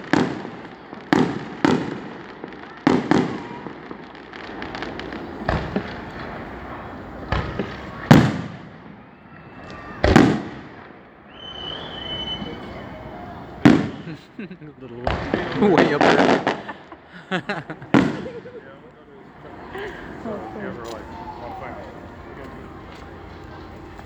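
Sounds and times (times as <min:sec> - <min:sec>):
fireworks booming with echo: 0:00.0 - 0:24.0.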